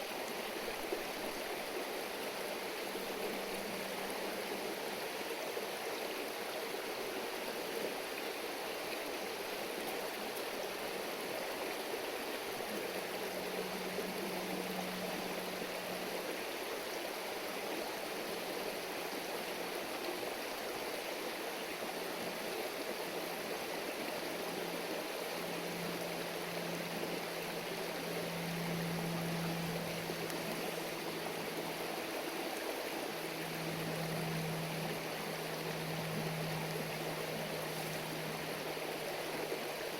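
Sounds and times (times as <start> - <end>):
low steady hum: 0.0 - 6.8, 8.8 - 39.9
stream babbling: 0.0 - 39.9.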